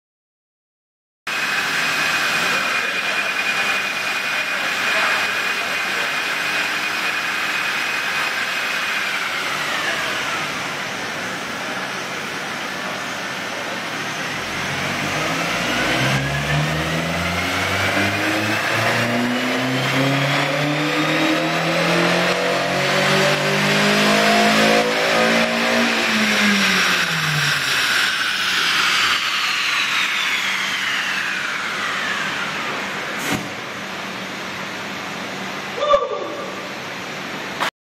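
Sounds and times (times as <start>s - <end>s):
car engine revving on dyno: 1.3s - 35.8s
high whine: 1.3s - 37.7s.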